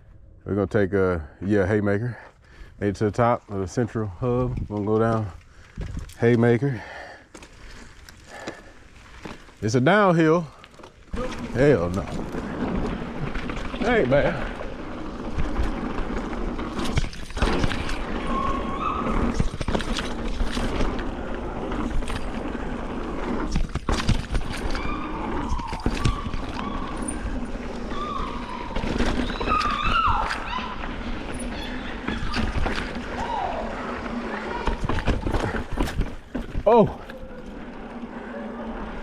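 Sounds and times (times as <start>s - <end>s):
wind and tyres on dirt: 0.0s - 39.0s
bike rattles and knocks: 4.2s - 6.7s, 7.3s - 39.0s.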